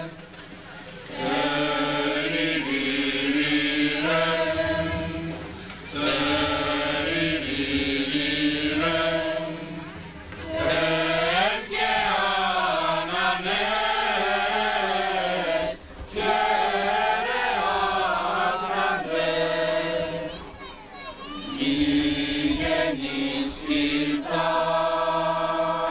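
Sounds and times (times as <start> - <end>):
choir singing long held notes: 0.0 - 20.6, 21.5 - 25.9.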